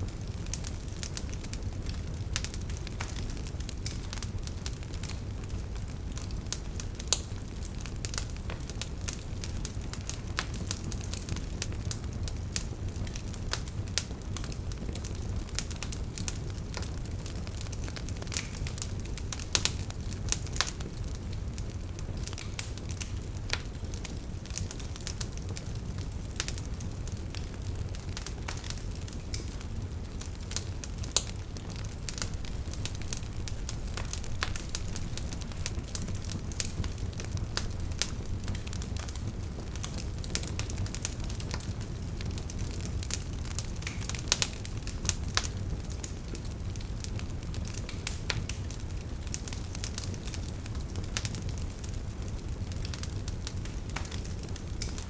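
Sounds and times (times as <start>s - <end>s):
firewood crackling and popping: 0.0s - 55.0s
rumble of flames: 0.0s - 55.0s.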